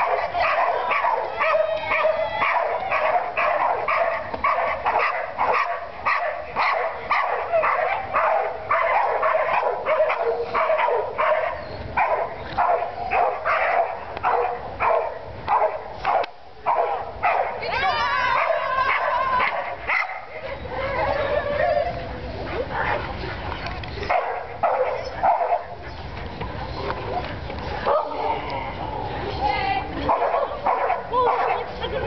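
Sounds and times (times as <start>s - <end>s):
dogs barking rapidly: 0.0s - 21.7s, 24.0s - 32.0s.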